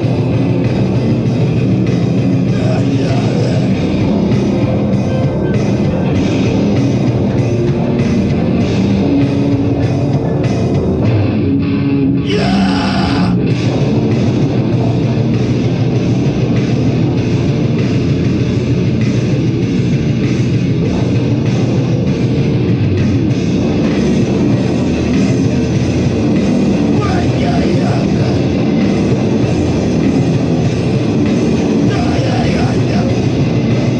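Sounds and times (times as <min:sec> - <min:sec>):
heavy metal band playing: 0:00.0 - 0:33.9.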